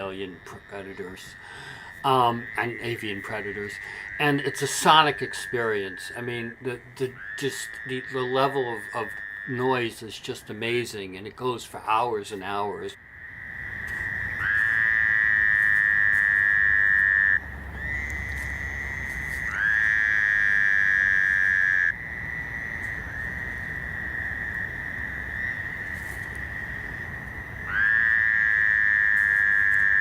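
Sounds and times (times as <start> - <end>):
faint toad chorus: 0.0 - 30.0
loud long toad calls: 0.0 - 30.0.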